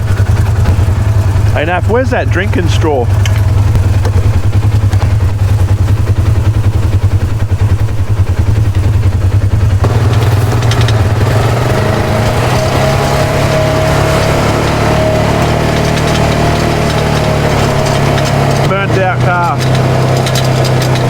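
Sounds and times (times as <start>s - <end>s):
steady high whine: 0.0s - 20.8s
engine running on dirt track: 0.0s - 21.0s.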